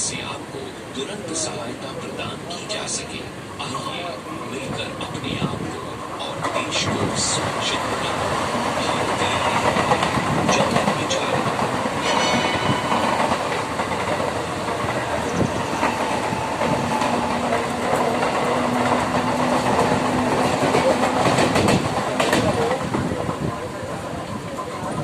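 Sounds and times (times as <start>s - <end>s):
train rumbling and rattling: 0.0s - 25.0s.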